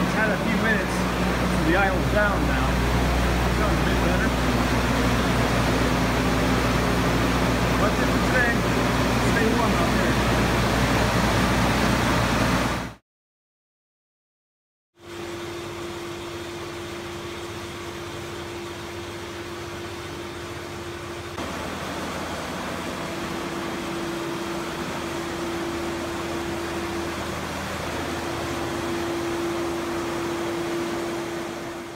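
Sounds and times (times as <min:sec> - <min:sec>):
engine idling: 0:00.0 - 0:12.3, 0:18.1 - 0:31.9.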